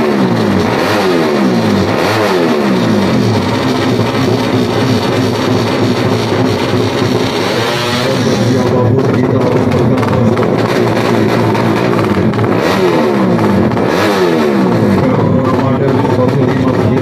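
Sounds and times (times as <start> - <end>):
engine throttle blips: 0.0 - 17.0.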